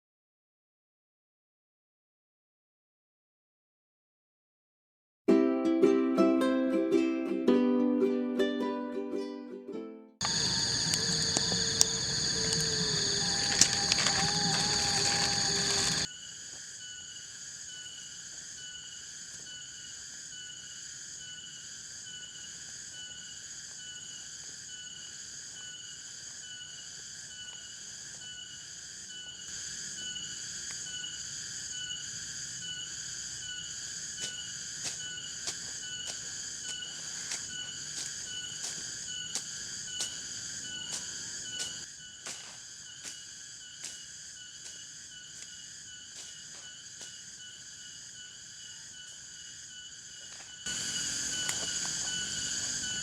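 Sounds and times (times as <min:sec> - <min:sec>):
insect chorus: 0:10.2 - 0:53.0.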